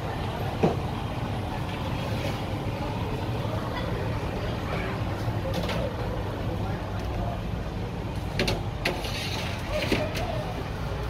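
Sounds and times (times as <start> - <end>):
faint scattered sounds: 0.0 - 11.0
shop interior rumble: 0.0 - 11.0.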